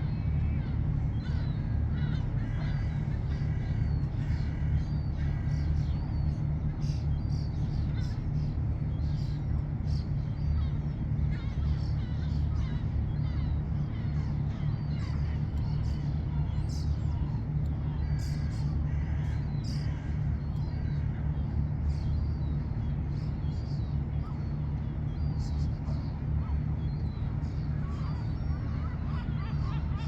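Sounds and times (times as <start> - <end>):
birds calling: 0.0 - 30.0
steady low rumble: 0.0 - 30.0.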